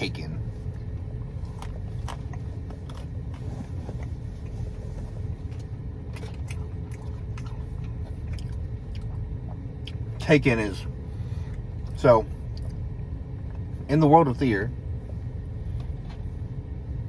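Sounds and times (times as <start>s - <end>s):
faint hum: 0.0s - 17.0s
low rumble: 0.0s - 17.0s.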